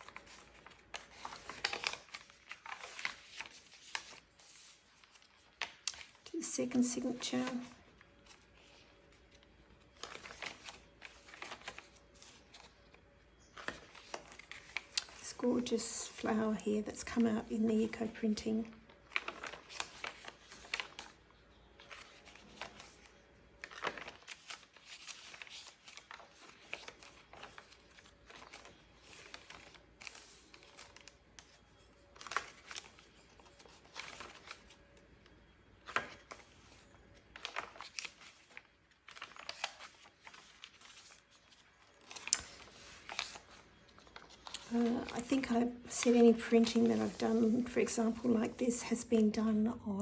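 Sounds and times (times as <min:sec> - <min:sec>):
paper pages turning: 0:00.0 - 0:49.4.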